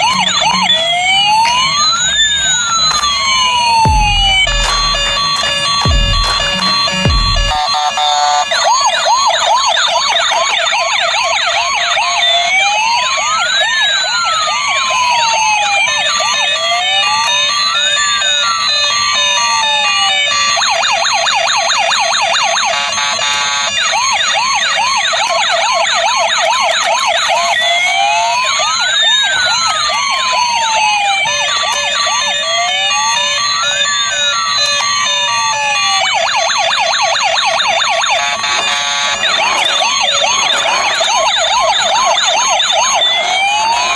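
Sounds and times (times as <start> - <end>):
toy electronic sirens: 0.0 - 43.9.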